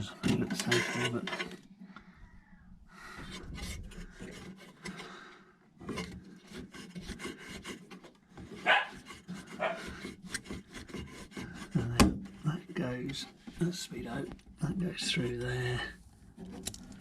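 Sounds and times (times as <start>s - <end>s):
cables rubbing and scraping: 0.0s - 1.8s, 2.9s - 17.0s.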